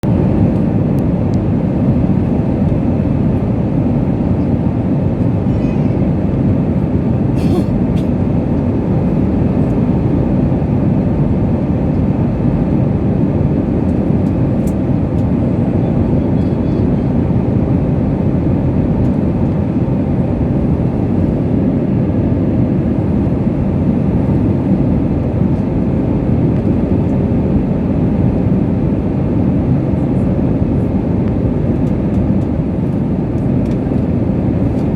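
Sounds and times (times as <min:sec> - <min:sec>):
airliner cabin engine rush: 0:00.0 - 0:34.9.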